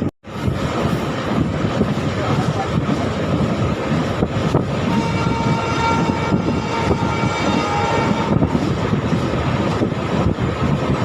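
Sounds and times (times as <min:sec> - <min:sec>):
train wheels rumbling on track: 0:00.0 - 0:11.0
wind rush: 0:00.0 - 0:11.0.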